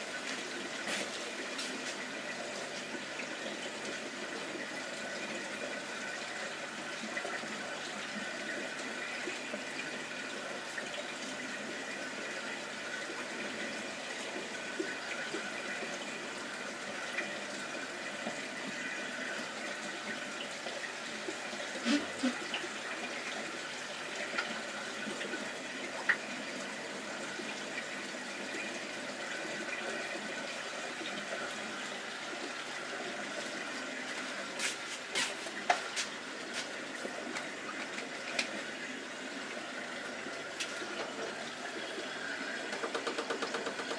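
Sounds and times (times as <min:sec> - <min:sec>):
aquarium filter bubbling: 0:00.0 - 0:43.9.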